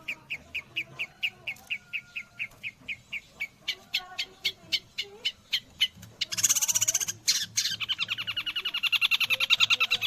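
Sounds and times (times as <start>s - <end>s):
bird fast trill: 0.0s - 10.0s.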